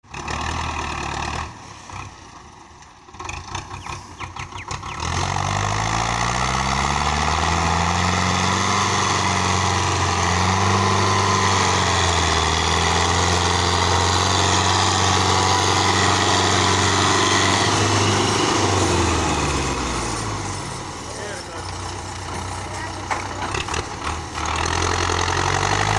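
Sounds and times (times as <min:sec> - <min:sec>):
tractor diesel engine revving: 0:00.0 - 0:25.9.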